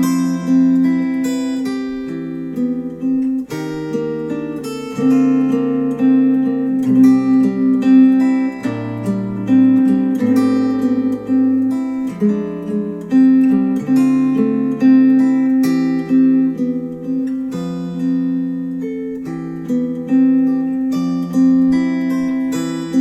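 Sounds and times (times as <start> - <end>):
acoustic guitar music on speakers: 0.0 - 23.0.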